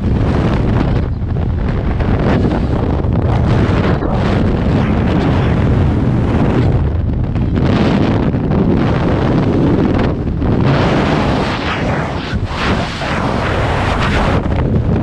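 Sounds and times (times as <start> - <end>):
wind roaring over microphone: 0.0 - 15.0.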